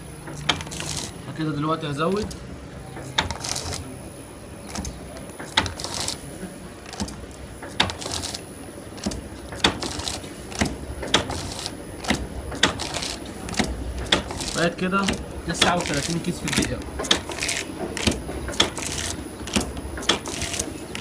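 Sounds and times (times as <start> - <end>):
steady mechanical hum: 0.0 - 21.0
packing machine clicks and clanks: 0.3 - 1.2, 2.0 - 4.0, 4.6 - 21.0.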